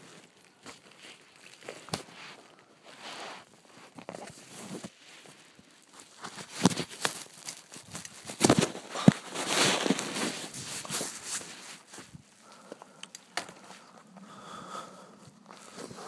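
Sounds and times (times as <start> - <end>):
clothing rubbing against microphone: 0.0 - 12.6, 15.2 - 16.0.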